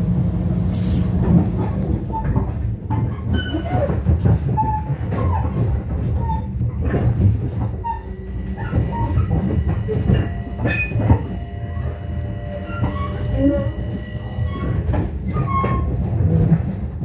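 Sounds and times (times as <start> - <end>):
train interior rumble: 0.0 - 17.0
wheels clattering over rail joints: 0.4 - 17.0.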